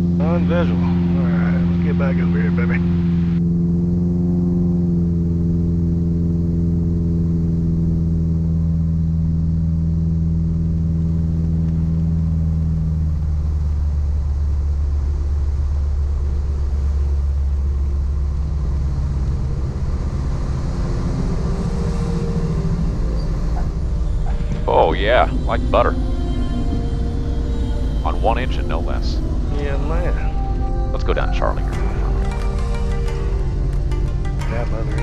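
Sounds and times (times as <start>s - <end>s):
aircraft engine drone: 0.0s - 35.0s.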